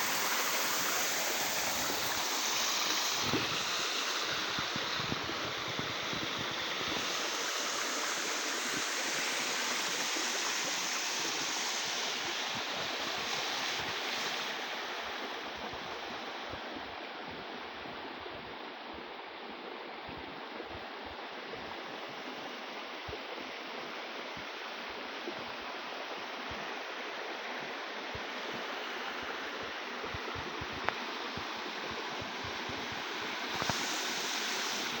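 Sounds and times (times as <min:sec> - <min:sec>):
low water gurgle: 0:00.0 - 0:35.0
stream of water rushing: 0:00.0 - 0:35.0.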